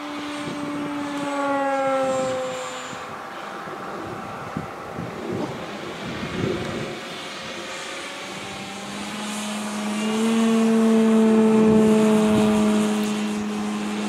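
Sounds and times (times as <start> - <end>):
model plane propeller humming: 0.0 - 14.0.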